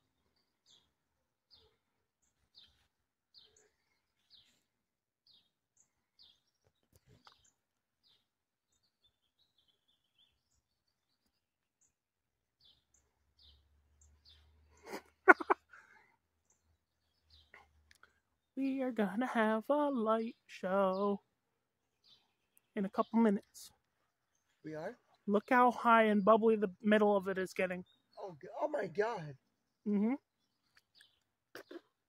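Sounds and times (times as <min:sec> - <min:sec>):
bird chirping: 0:00.0 - 0:21.2, 0:21.8 - 0:32.0.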